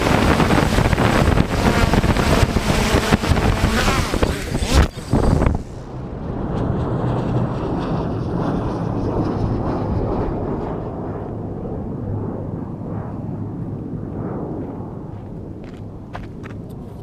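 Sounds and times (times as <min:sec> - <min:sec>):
gusty wind buffeting microphone: 0:00.0 - 0:17.0
steady low hum: 0:00.0 - 0:17.0.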